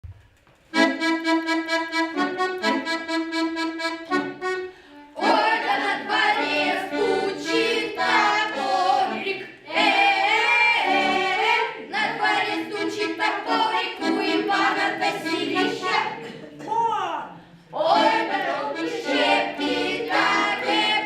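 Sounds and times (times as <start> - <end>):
children singing folk song: 0.8 - 16.7, 17.6 - 21.0.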